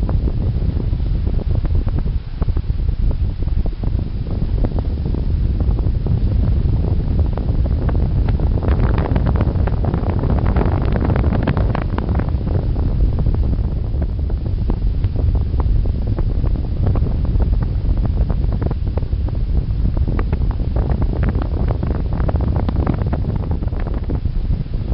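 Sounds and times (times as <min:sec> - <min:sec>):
wind roar on microphone: 0:00.0 - 0:24.9.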